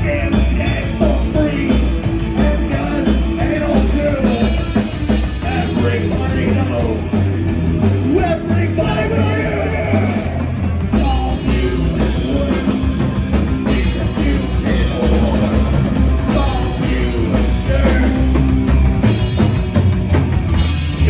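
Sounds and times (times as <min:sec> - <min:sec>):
person singing: 0:00.0 - 0:18.7
drum kit: 0:00.0 - 0:21.0
electric guitar: 0:00.0 - 0:21.0.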